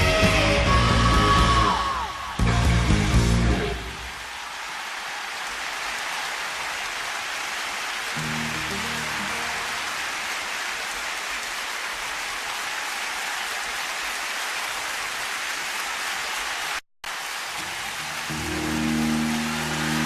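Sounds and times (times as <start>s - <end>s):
crowd applauding and cheering: 0.0s - 20.0s.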